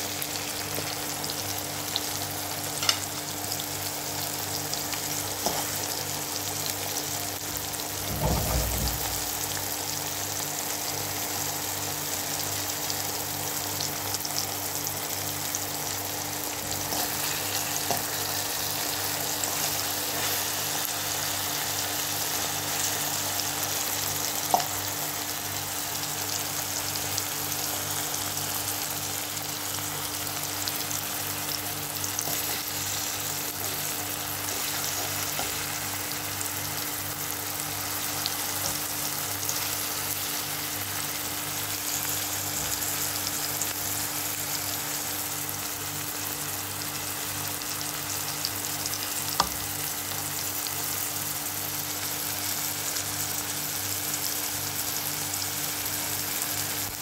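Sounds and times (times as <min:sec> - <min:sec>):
eggs sizzling in a pan: 0:00.0 - 0:57.0.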